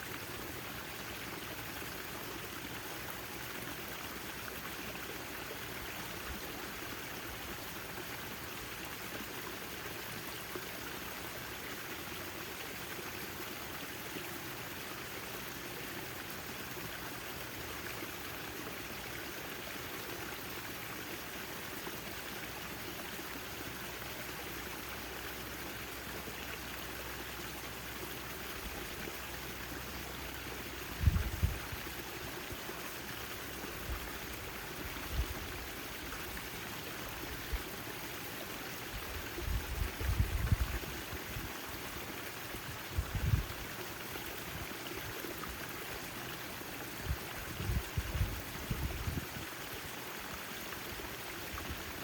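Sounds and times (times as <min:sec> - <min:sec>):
fountain water splashing: 0:00.0 - 0:52.0.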